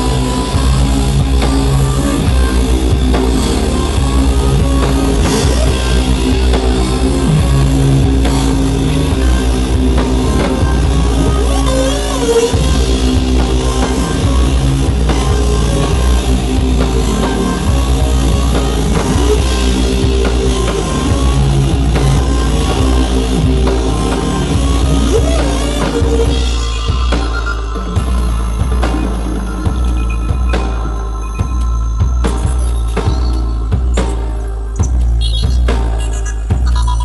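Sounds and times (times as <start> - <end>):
driving drum kit: 0.0 - 37.0
live rock band playing: 0.0 - 37.0.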